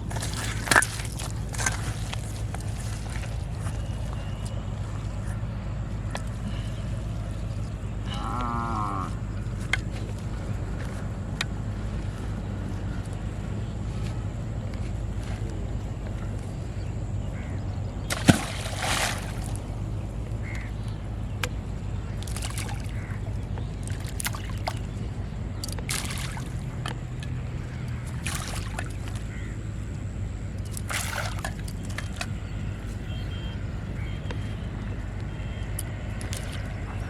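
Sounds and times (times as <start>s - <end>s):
steady low hum: 0.0s - 37.0s
water sloshing and splashing: 0.0s - 37.0s.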